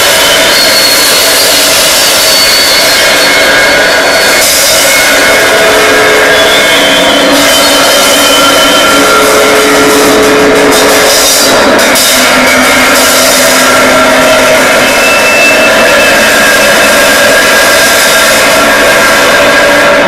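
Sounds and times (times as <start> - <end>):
amplified tin can noise: 0.0 - 20.0.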